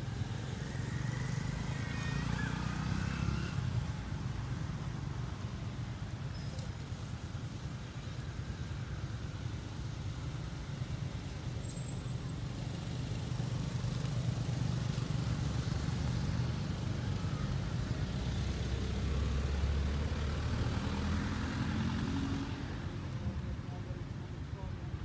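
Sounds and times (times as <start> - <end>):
vehicle engine rumble: 0.0 - 25.0.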